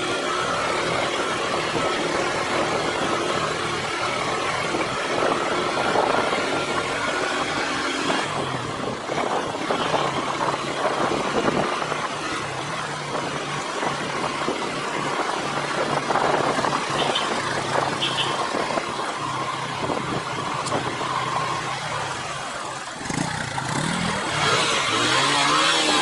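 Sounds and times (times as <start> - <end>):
constant rushing noise: 0.0 - 26.0
motorcycle engine running: 0.0 - 26.0.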